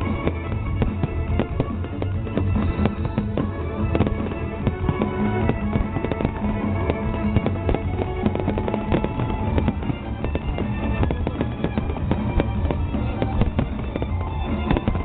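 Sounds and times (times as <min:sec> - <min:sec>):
fireworks exploding: 0:00.0 - 0:15.0
music playing: 0:00.0 - 0:15.0.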